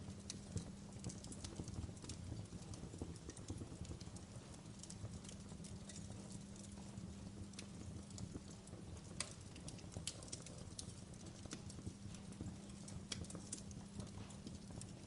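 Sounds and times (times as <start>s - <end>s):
steady low hum: 0.0s - 15.0s
wood fire crackling: 0.0s - 15.0s.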